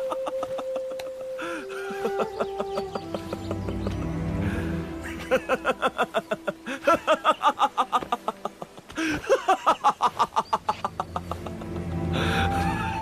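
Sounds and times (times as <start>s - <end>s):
person laughing heartily: 0.0s - 13.0s.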